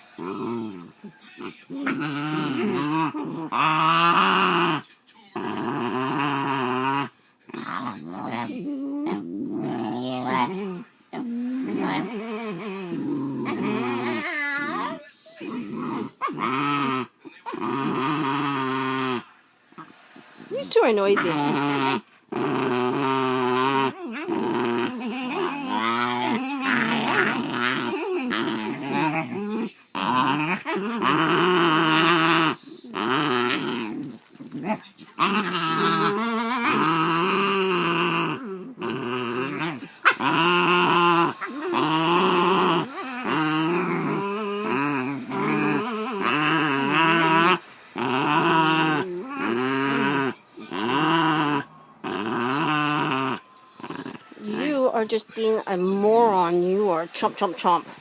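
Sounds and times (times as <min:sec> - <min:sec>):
dogs growling: 0:00.0 - 0:58.0.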